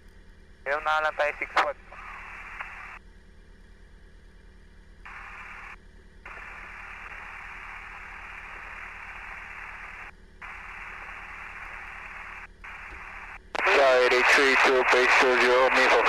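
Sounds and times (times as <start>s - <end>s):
low steady hum: 0.0s - 16.0s
radio headset hiss: 0.7s - 3.0s, 5.1s - 16.0s.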